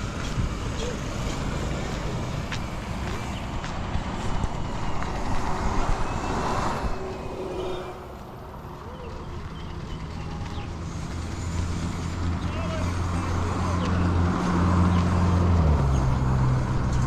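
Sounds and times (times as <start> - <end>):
low engine rumble: 0.0 - 17.0
vehicle passing close by: 0.0 - 17.0.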